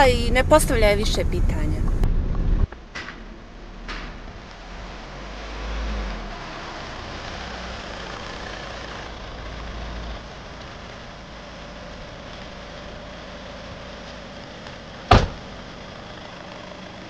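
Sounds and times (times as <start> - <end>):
car engine running: 0.0 - 5.2, 6.1 - 17.0.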